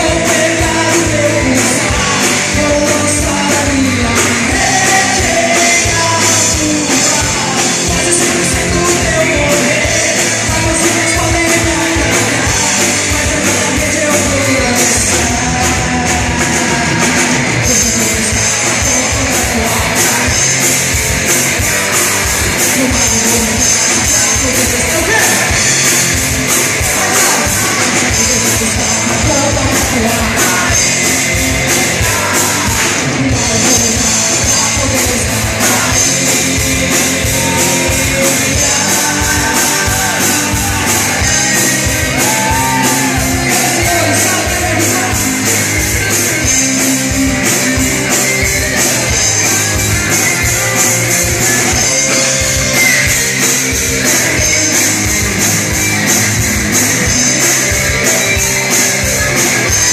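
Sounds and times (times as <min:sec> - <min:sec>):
person singing: 0:00.0 - 0:56.1, 0:56.8 - 0:59.9
hard rock band playing live: 0:00.0 - 0:59.9
steady drum beat: 0:00.0 - 0:59.9.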